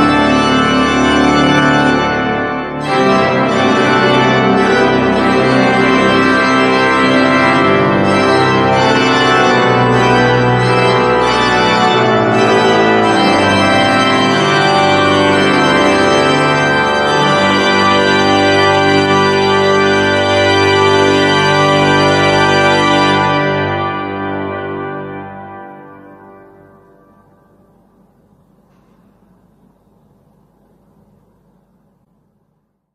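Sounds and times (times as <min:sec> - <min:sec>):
pipe organ chords: 0:00.0 - 0:32.8.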